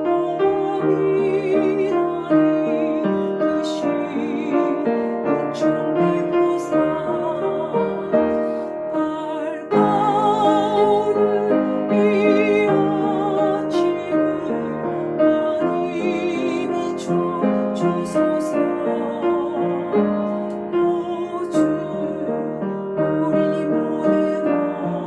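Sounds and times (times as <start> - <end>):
piano accompaniment: 0.0 - 25.0
woman singing a hymn: 0.0 - 25.0.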